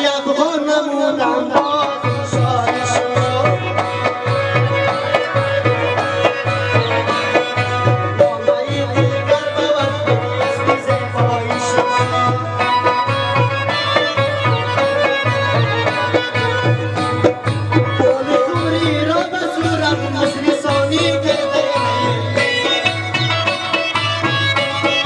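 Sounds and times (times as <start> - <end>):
plucked-string melody: 0.0 - 25.0
hand drums: 1.1 - 25.0.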